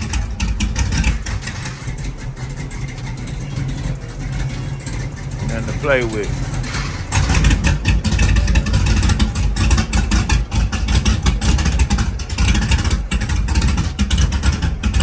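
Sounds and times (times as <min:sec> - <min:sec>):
car engine with uneven pulsing beat: 0:00.0 - 0:15.0.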